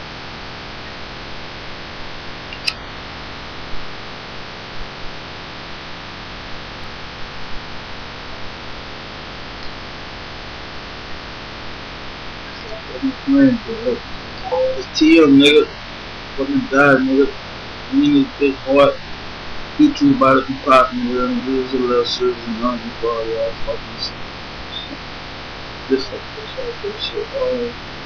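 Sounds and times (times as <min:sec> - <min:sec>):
microphone hiss: 0:00.0 - 0:28.0.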